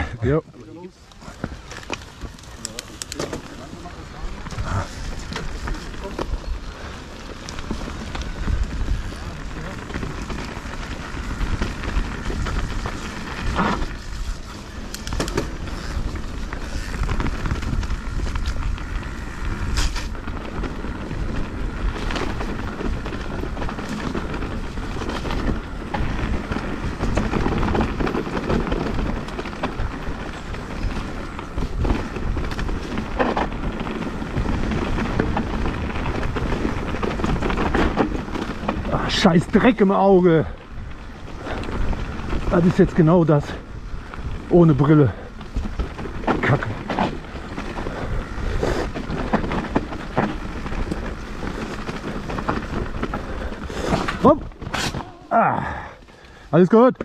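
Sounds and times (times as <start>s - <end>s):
tyres rolling over dirt and stones: 0.0s - 57.0s
bike rattling and knocking: 0.2s - 57.0s.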